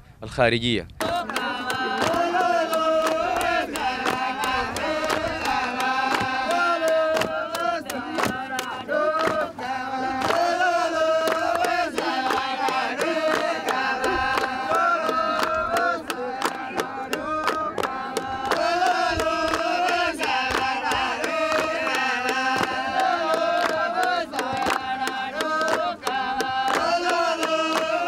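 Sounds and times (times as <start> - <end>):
hand claps: 1.0 - 28.0
men chanting in unison: 1.0 - 28.0.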